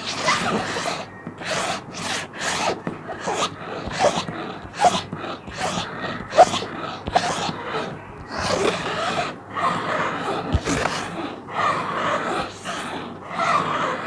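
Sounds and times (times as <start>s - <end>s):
plastic sheet being scratched: 0.0s - 13.1s.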